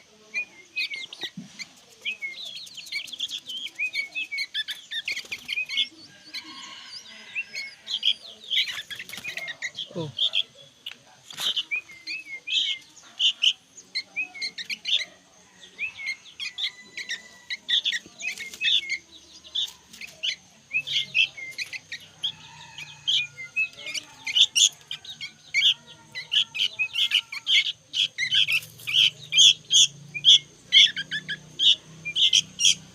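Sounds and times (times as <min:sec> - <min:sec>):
birds chirping and whistling: 0:00.0 - 0:32.9.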